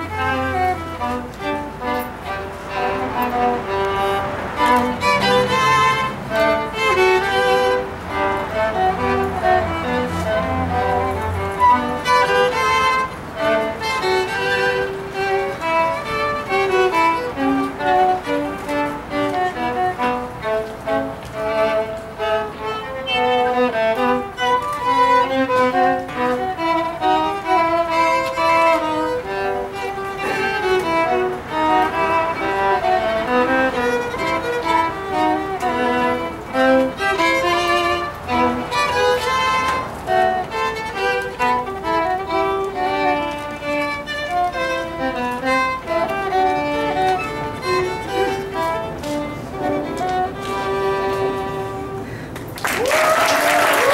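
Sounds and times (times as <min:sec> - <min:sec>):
violin duet: 0:00.0 - 0:53.9.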